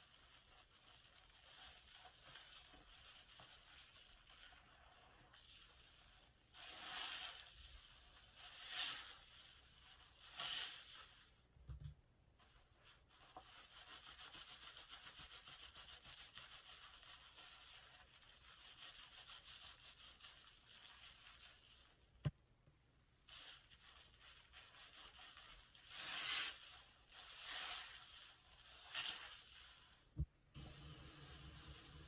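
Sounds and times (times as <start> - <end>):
sponge squeezing soapy foam: 0.0 - 11.6, 12.4 - 22.3, 23.2 - 32.0.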